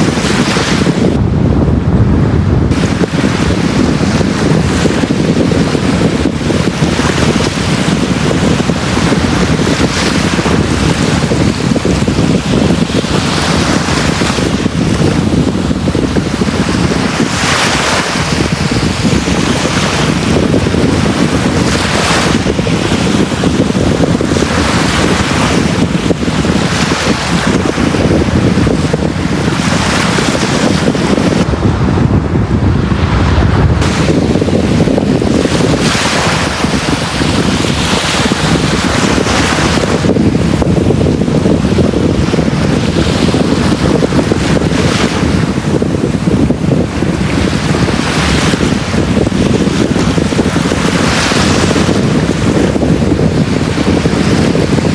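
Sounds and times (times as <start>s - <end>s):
sea waves breaking on beach: 0.0s - 1.2s, 2.7s - 31.8s, 32.9s - 54.9s.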